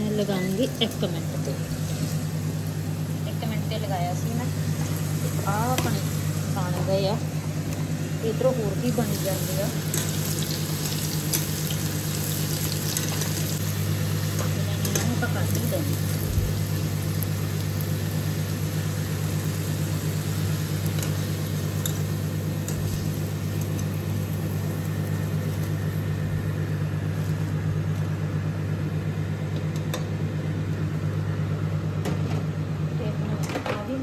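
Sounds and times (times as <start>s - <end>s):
microwave oven humming: 0.0s - 34.0s.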